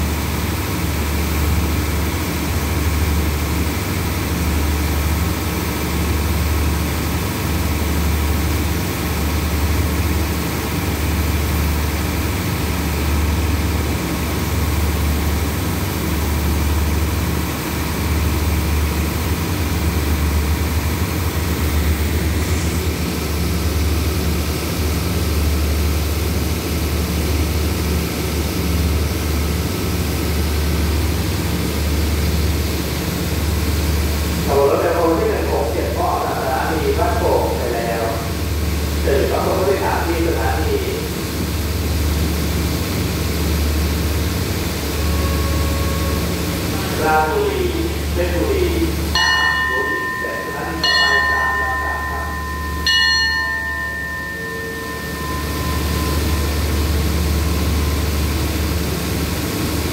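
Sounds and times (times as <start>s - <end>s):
train diesel engine idling: 0.0s - 59.9s.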